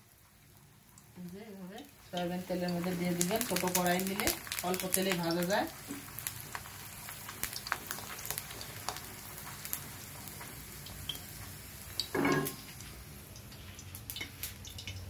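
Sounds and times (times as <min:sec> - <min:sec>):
bread deep-frying in hot oil: 0:00.0 - 0:15.0.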